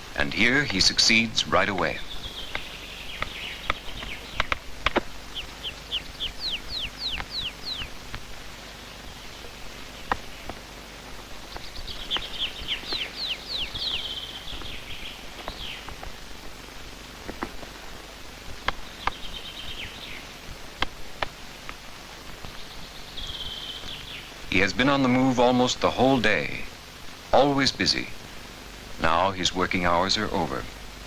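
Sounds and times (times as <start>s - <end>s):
woodpecker hammering: 0.0s - 26.5s
songbird singing: 0.0s - 31.0s.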